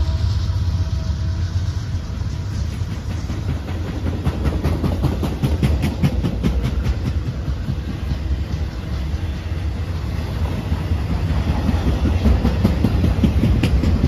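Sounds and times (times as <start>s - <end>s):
diesel locomotive engine drone: 0.0s - 14.0s
heavy rumble of freight cars: 0.0s - 14.0s
wheels clattering over rail joints: 2.6s - 14.0s.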